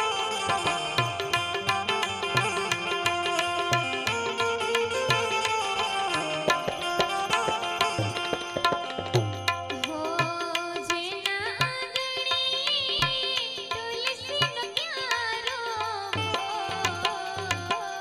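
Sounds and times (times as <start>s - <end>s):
tabla rhythm: 0.0s - 18.0s.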